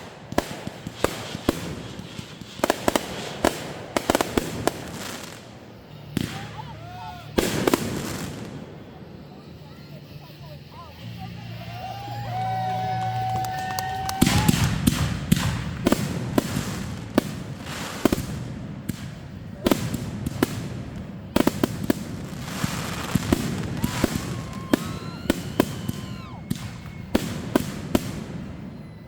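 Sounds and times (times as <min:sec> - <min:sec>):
fireworks bangs and pops: 0:00.0 - 0:29.0
fireworks crackling: 0:00.0 - 0:29.0.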